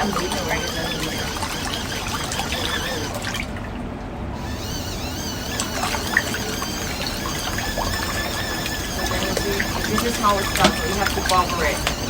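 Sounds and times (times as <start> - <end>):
washing machine water sloshing: 0.0 - 12.0.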